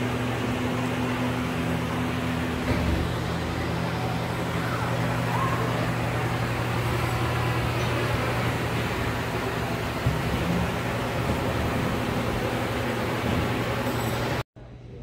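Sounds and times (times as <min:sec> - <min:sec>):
fan humming with rushing air: 0:00.0 - 0:15.0.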